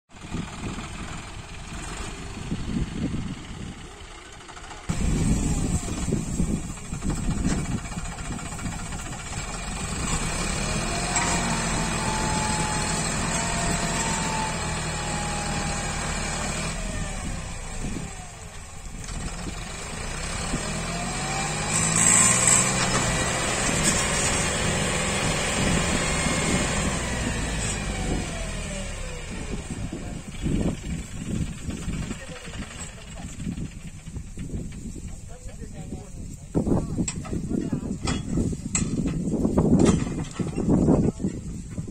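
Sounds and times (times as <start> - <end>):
tractor diesel engine labouring: 0.1 - 41.9.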